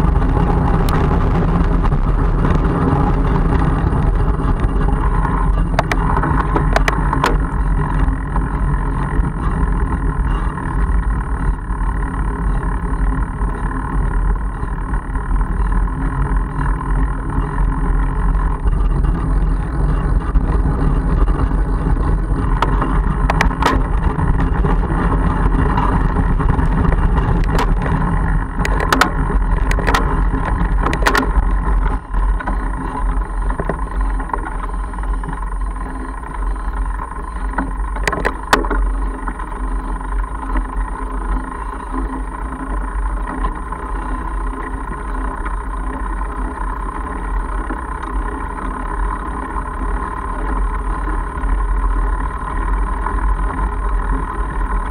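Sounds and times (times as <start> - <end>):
wind on microphone: 0.0 - 46.3
bike clicks and knocks over bumps: 0.0 - 54.9
bike tyres on gravel: 0.0 - 54.9.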